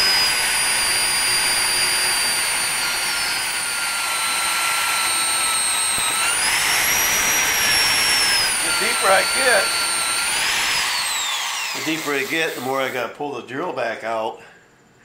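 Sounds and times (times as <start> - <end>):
electric drill whining: 0.0 - 13.0.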